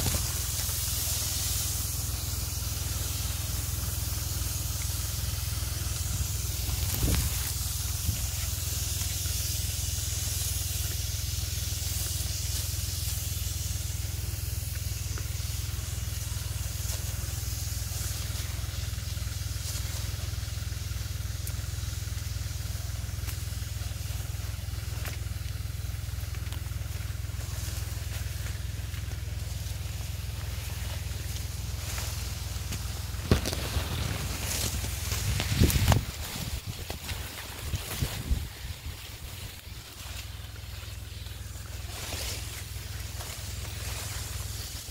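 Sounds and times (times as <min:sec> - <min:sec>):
spray hissing: 0:00.0 - 0:44.9
tractor engine droning: 0:00.0 - 0:44.9.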